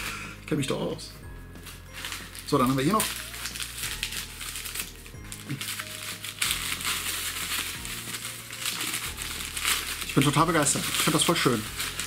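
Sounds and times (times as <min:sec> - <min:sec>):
wrapping crackling: 0:01.6 - 0:12.0.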